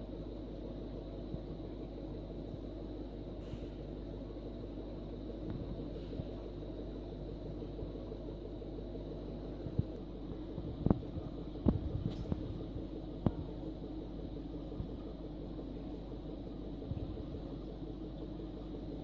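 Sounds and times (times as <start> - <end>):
aquarium pump humming: 0.0 - 19.0.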